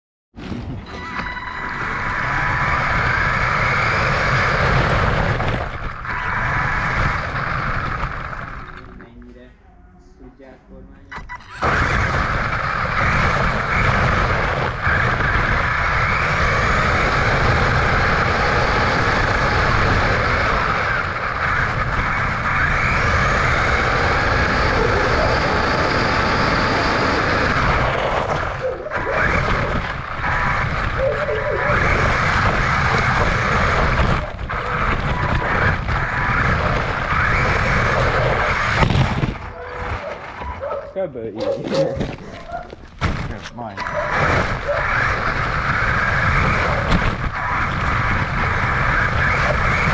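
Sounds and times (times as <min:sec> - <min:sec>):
rc car motor whirring: 0:01.0 - 0:09.0, 0:11.3 - 0:40.7, 0:43.8 - 0:49.9.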